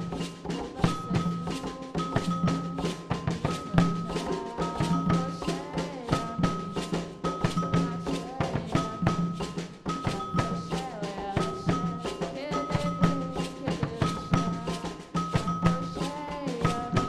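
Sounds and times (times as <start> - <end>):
drums in fast rhythm: 0.0 - 17.0
pitched percussion melody: 0.0 - 17.0.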